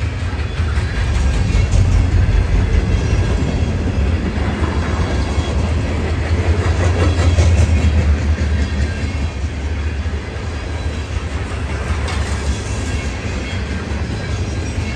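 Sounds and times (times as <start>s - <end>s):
train rumbling past: 0.0s - 14.9s.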